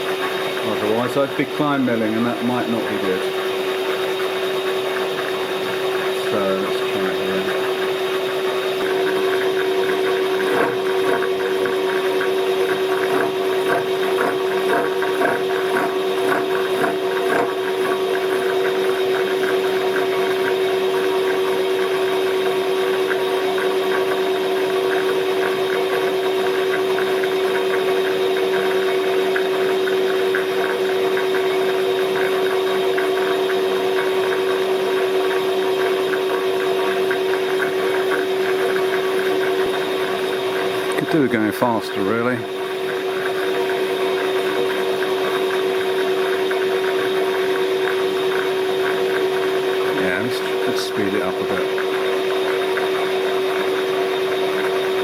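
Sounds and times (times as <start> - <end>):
milling machine cutting metal: 0.0 - 55.0.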